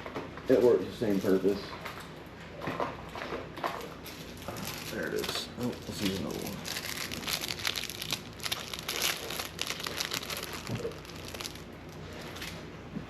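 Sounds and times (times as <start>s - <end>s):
crinkling and crackling: 0.9s - 12.7s.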